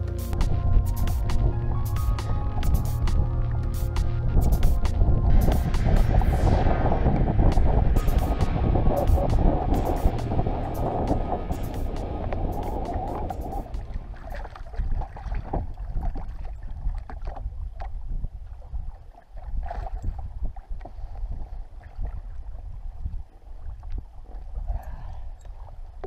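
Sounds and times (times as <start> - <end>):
water slapping against hull: 0.4 - 24.5
wind buffeting microphone: 0.4 - 26.0.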